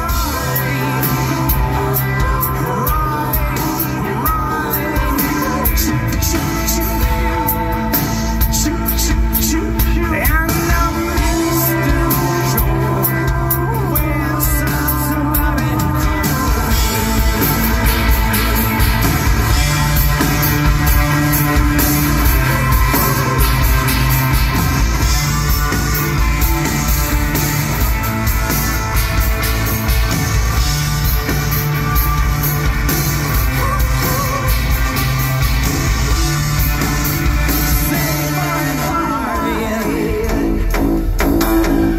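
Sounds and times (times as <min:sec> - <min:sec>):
man singing: 0:00.0 - 0:28.4, 0:33.2 - 0:41.9
bass guitar: 0:00.0 - 0:41.9
drums: 0:00.0 - 0:41.9.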